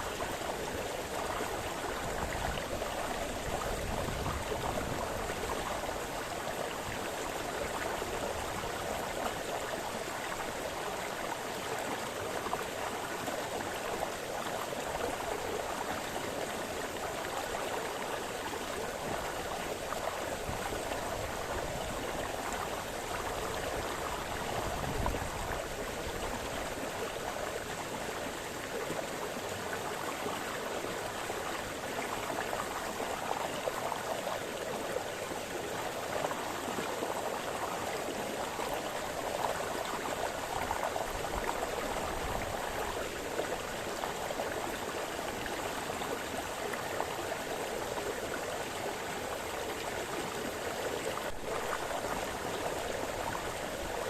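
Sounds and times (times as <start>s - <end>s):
stream burbling over stones: 0.0s - 54.0s.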